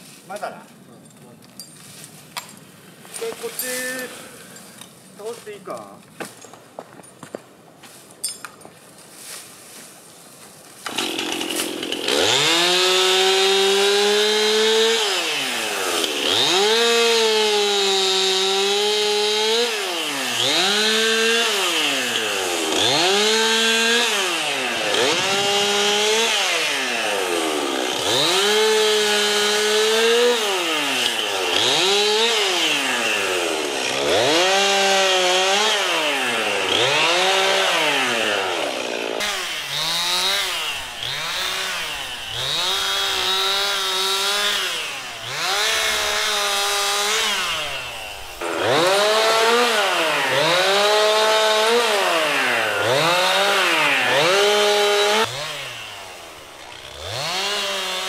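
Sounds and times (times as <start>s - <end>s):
chainsaw revving: 10.8s - 58.0s.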